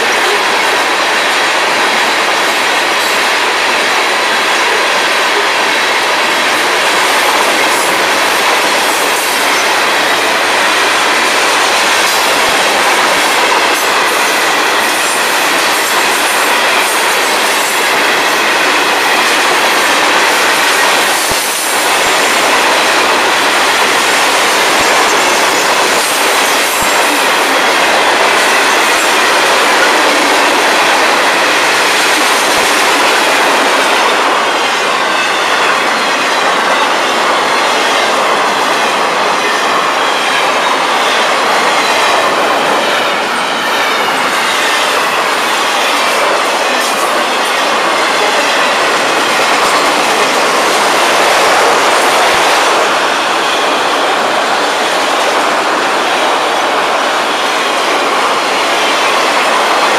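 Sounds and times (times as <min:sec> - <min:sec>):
freight train cars rumbling past: 0:00.0 - 0:59.9.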